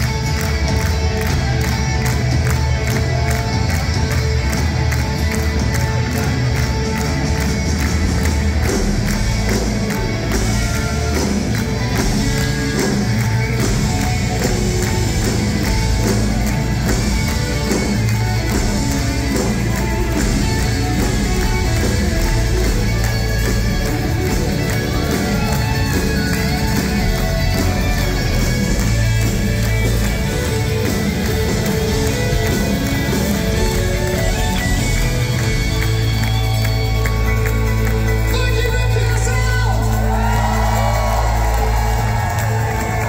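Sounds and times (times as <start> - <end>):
live hard rock band: 0.0 - 43.0.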